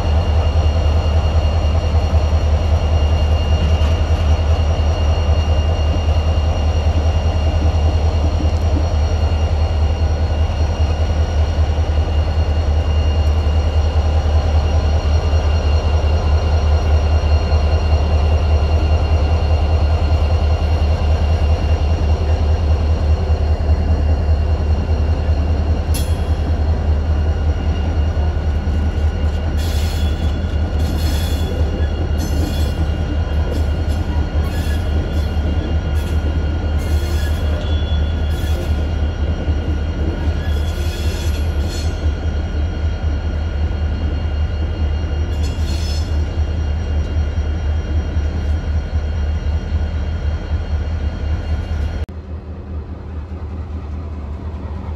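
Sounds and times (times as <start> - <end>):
diesel locomotive engine throb: 0.0 - 54.9.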